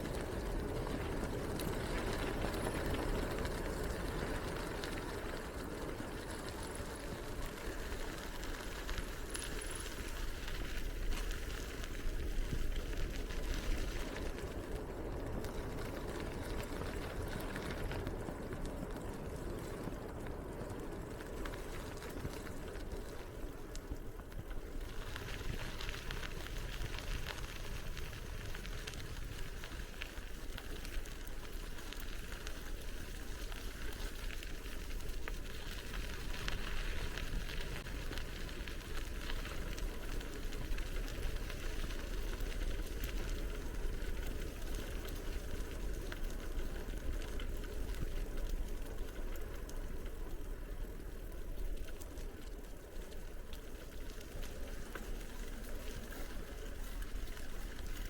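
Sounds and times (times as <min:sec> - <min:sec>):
bicycle tyres rolling: 0:00.0 - 0:58.0.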